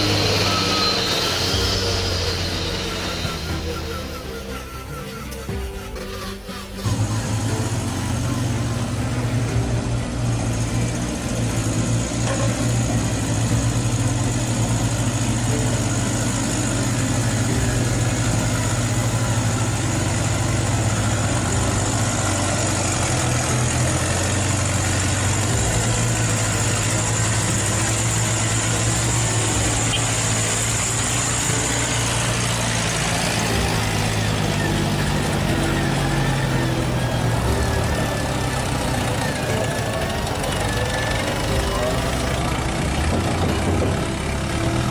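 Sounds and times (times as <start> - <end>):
model truck engine drone: 0.0 - 44.9.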